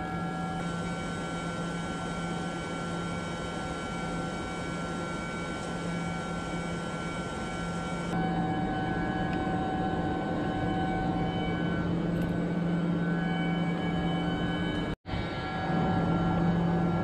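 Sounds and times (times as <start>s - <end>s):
chiller equipment humming: 0.0s - 17.0s.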